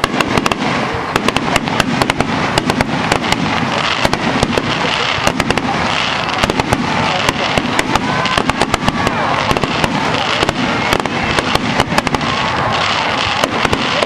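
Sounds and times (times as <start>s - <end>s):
crackling hiss: 0.0s - 14.0s
fireworks bangs and crackles: 0.0s - 14.0s.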